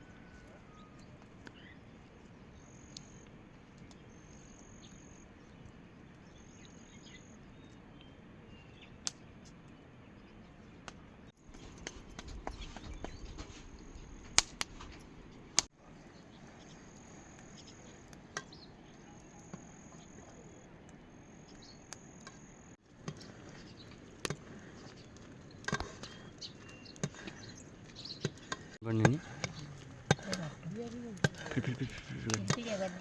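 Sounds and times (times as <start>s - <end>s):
faint outdoor background: 0.0s - 33.0s.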